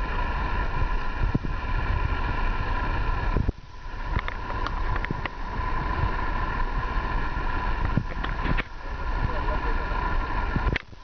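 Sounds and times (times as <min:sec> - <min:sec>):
steady high hum: 0:00.0 - 0:11.0
wind buffeting microphone: 0:00.0 - 0:11.0.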